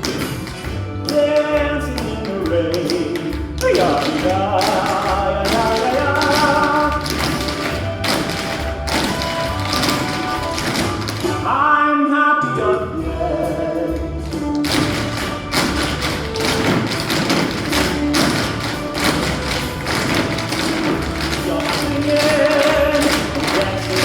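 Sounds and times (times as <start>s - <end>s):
tap shoes striking floor: 0.0s - 11.5s, 14.5s - 24.0s
recorded music: 0.0s - 24.0s.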